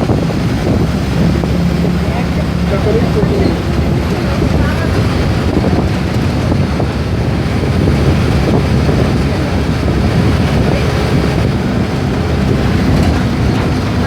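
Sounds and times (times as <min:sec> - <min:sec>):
diesel bus engine drone: 0:00.0 - 0:14.0
road and wind noise: 0:00.0 - 0:14.0.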